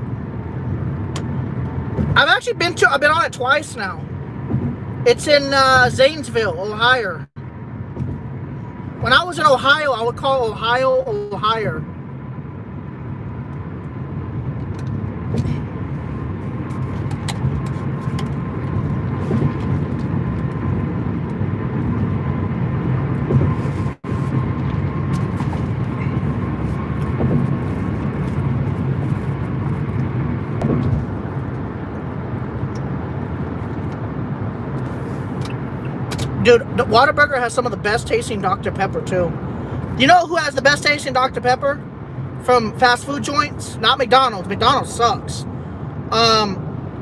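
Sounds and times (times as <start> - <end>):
road and engine rumble: 0.0 - 47.0.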